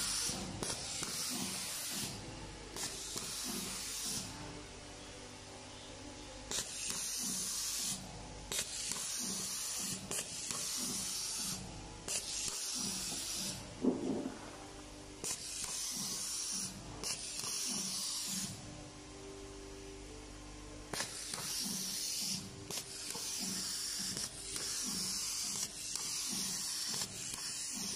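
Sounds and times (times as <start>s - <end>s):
cable tie gun hissing: 0.0s - 4.3s, 6.5s - 14.2s, 15.2s - 18.6s, 20.9s - 27.9s.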